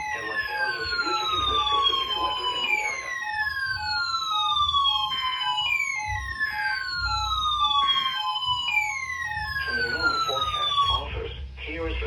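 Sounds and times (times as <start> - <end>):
siren-like tone sweeping down: 0.0 - 11.1.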